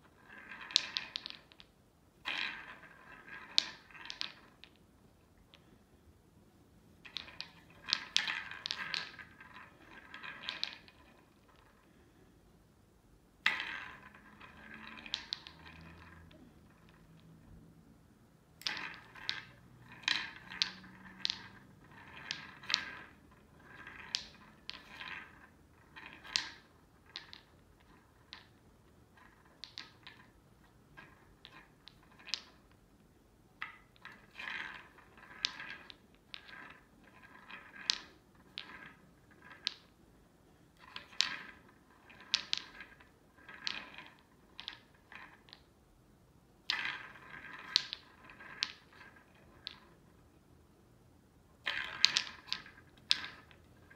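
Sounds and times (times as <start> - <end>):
wooden balls clacking and rolling: 0.0 - 12.5, 13.1 - 53.9.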